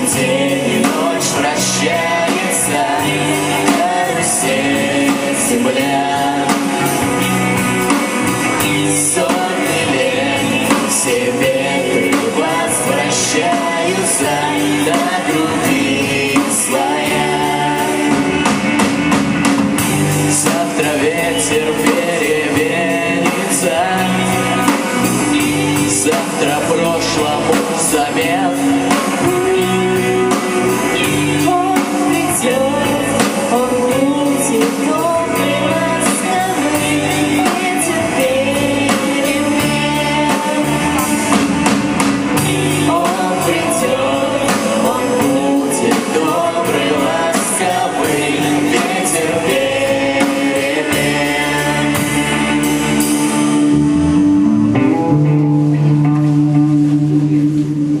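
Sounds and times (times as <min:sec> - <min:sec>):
drum kit beat: 0:00.0 - 0:58.0
guitar: 0:00.0 - 0:58.0
live band playing pop song: 0:00.0 - 0:58.0.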